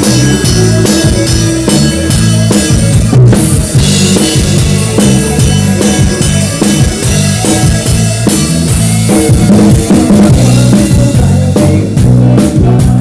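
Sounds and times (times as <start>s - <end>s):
band playing: 0.0s - 13.0s
low bass notes: 0.0s - 13.0s.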